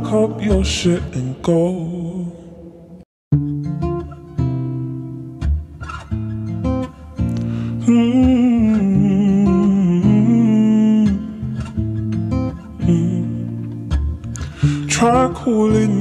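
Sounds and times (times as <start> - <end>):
acoustic guitar chords ringing: 0.0 - 16.0.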